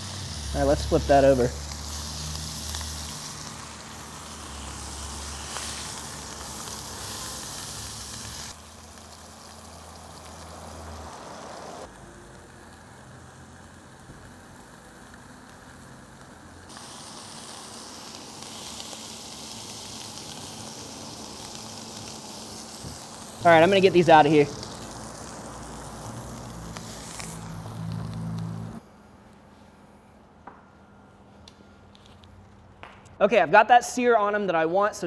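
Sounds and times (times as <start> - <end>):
meat sizzling in a skillet: 0.0 - 28.8.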